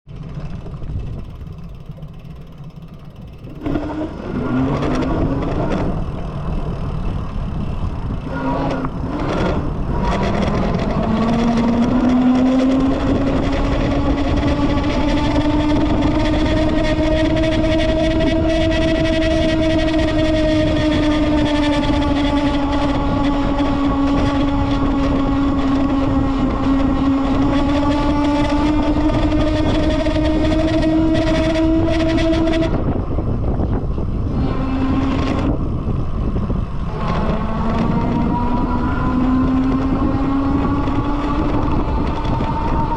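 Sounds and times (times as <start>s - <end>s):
constant rushing noise: 0.1s - 42.9s
electric bike horn-like drone: 0.2s - 42.9s.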